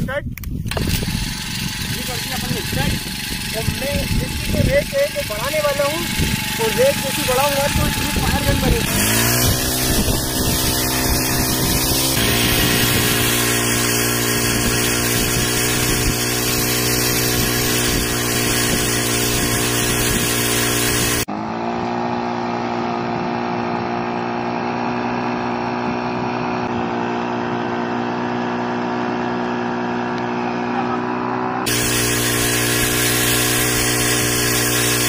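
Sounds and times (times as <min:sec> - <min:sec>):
sprayer engine running: 0:00.6 - 0:35.0.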